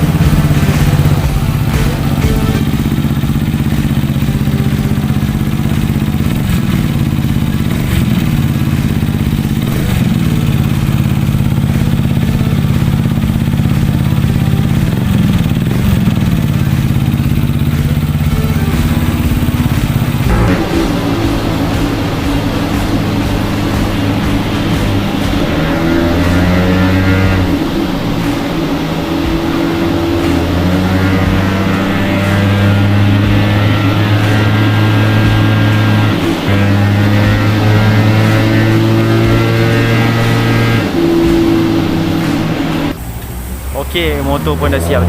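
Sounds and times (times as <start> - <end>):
scooter engine running under load: 0.0 - 45.0.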